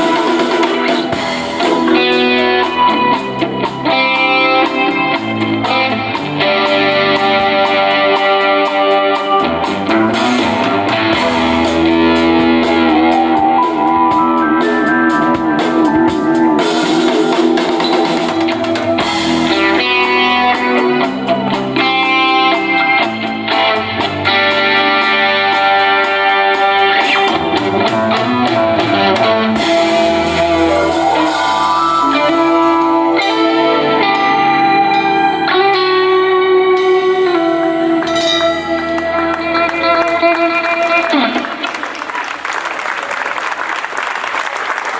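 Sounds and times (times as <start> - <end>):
drum kit: 0.0 - 35.4, 36.7 - 41.6
electric guitar: 0.0 - 42.1.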